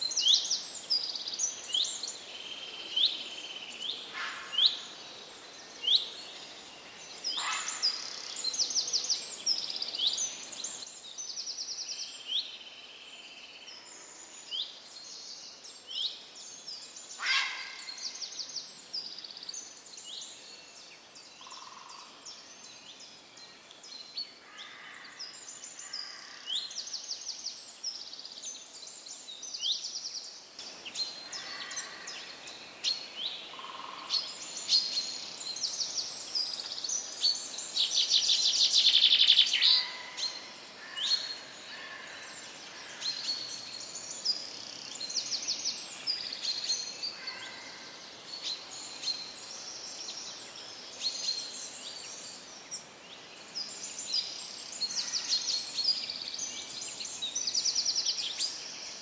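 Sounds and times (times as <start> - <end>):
birds chirping and trilling: 0.0 - 12.8, 13.4 - 59.0
background hiss: 0.0 - 59.0.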